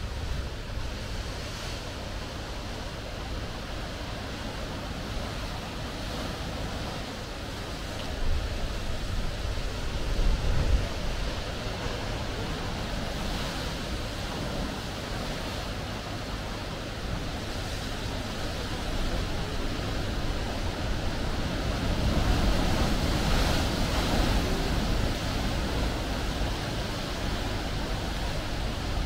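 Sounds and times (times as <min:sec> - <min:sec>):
sea waves washing: 0:00.0 - 0:29.0
wind rumbling on microphone: 0:00.0 - 0:29.0.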